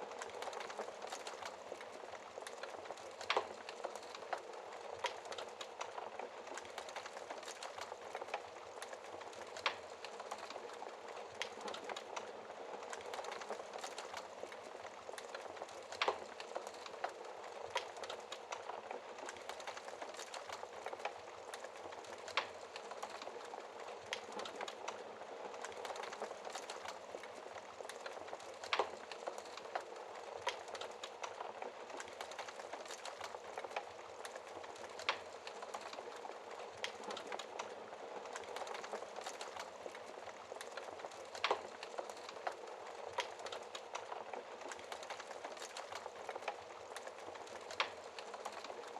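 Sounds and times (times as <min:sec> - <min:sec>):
wood fire crackling and hissing: 0:00.0 - 0:48.9.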